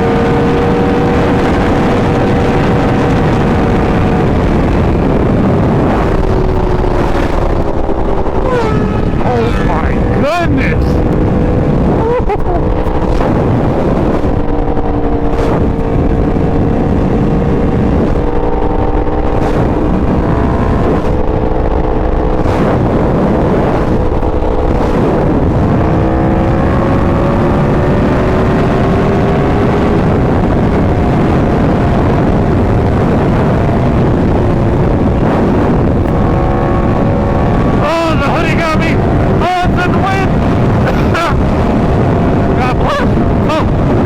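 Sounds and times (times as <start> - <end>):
motorcycle engine running: 0.0 - 44.0
wind noise: 0.0 - 44.0.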